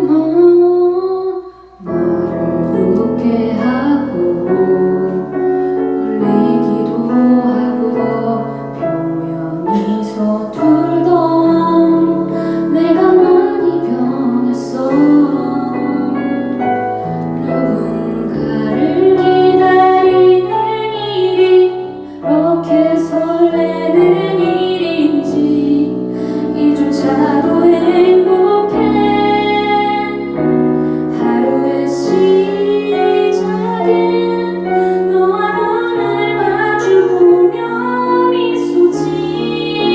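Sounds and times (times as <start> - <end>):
piano accompaniment: 0.0 - 39.9
woman singing a ballad: 0.0 - 39.9.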